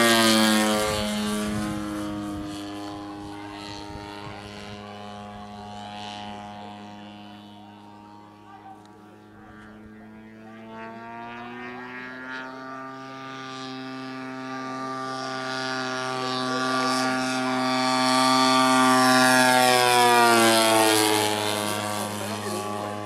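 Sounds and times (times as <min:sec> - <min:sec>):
model plane engine flying past: 0:00.0 - 0:23.0.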